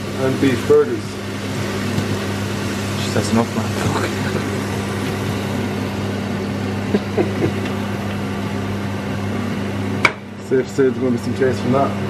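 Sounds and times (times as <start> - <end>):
food sizzling in frying pan: 0.0 - 10.1
low electrical hum: 0.0 - 12.0.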